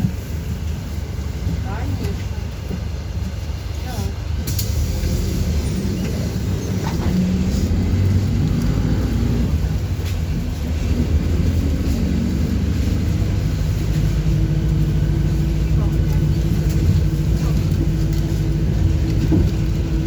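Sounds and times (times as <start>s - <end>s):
bus engine drone: 0.0s - 20.0s
road rumble: 0.0s - 20.0s.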